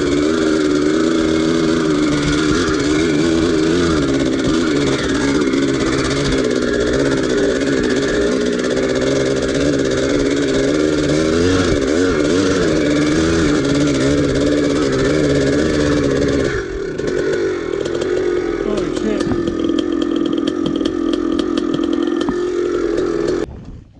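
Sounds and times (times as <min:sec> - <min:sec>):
two-stroke engine running: 0:00.0 - 0:23.5.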